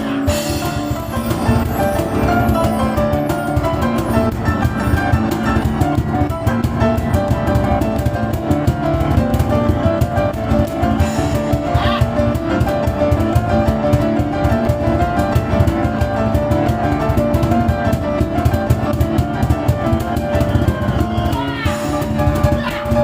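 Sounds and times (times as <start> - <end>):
fast cajon beats: 0.0 - 23.0
piano chords and runs: 0.0 - 23.0.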